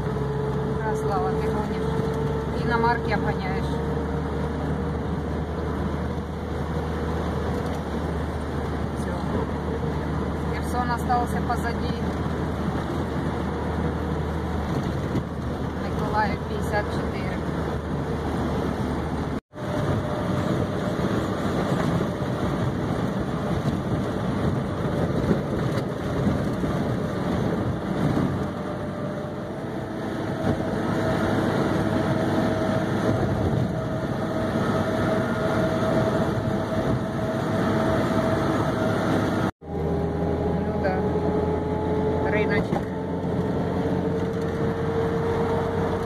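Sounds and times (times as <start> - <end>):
faint engine hum: 0.0 - 46.0.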